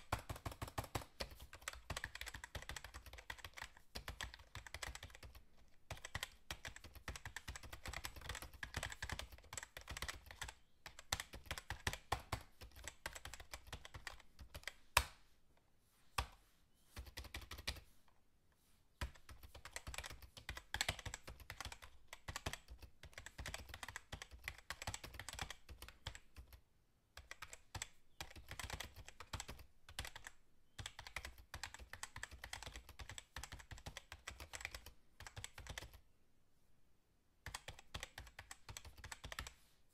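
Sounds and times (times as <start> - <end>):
typing on keyboard: 0.0 - 15.0, 17.0 - 17.8, 19.0 - 26.6, 27.2 - 36.0, 37.4 - 39.6.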